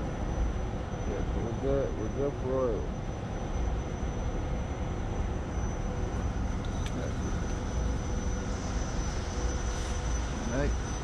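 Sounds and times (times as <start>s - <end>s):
faint high whine: 0.0s - 11.0s
low machinery rumble: 0.0s - 11.0s.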